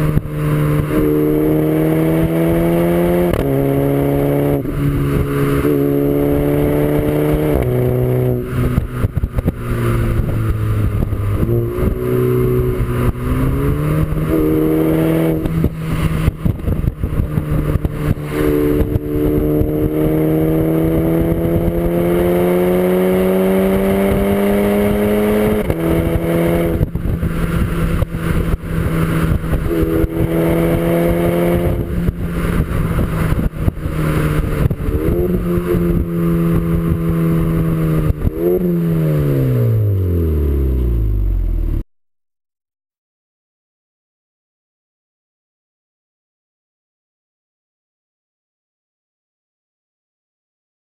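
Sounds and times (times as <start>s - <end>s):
car engine and exhaust revving: 0.0s - 41.8s.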